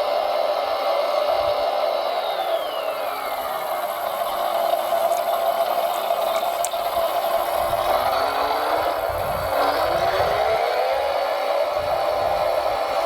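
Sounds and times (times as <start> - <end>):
electric motor and gearbox whining: 0.0 - 13.0.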